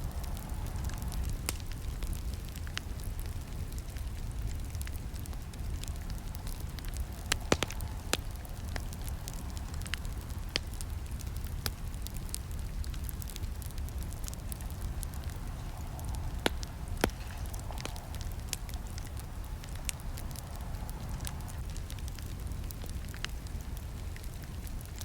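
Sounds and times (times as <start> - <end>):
campfire rumbling: 0.0 - 25.0
fire pops and snaps: 0.0 - 25.0.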